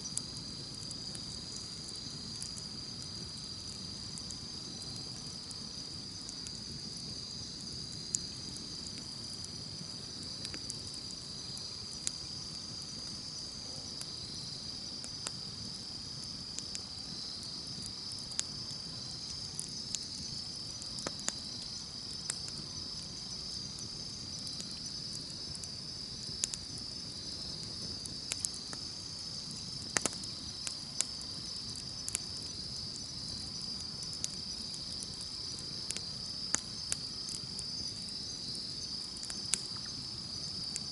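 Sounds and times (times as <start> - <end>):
campfire crackling and popping: 0.0 - 40.9
insects chirring: 0.0 - 40.9.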